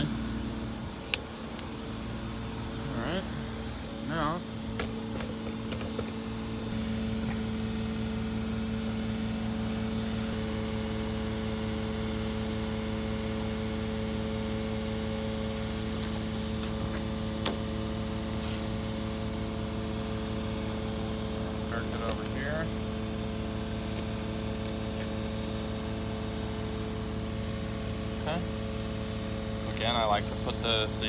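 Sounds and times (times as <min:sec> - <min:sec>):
engine-like hum: 0:00.0 - 0:31.0.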